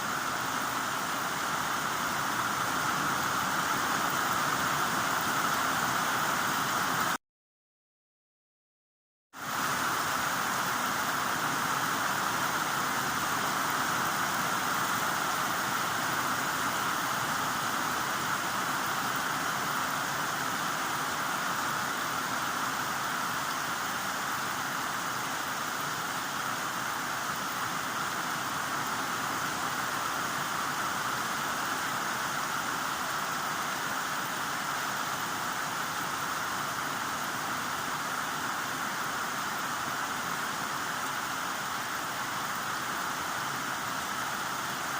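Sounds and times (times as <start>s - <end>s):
heavy rain hissing: 0.0s - 7.2s, 9.4s - 44.9s.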